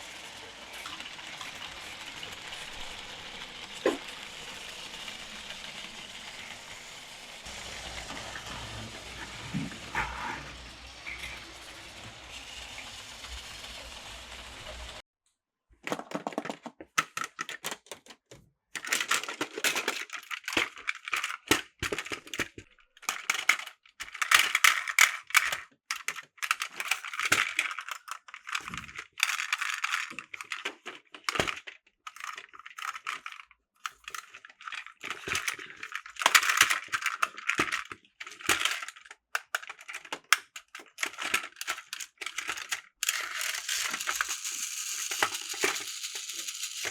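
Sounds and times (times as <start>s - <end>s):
plastic toy track clicking and rattling: 0.0s - 15.0s, 15.8s - 46.9s.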